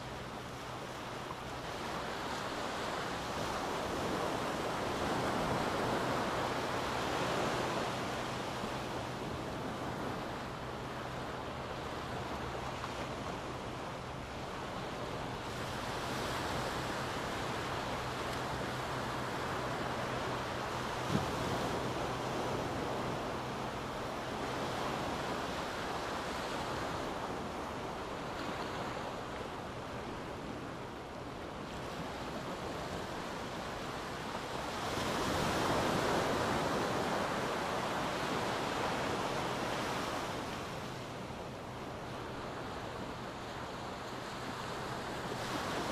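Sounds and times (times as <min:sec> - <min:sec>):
small waves washing on sand: 0:00.0 - 0:45.9.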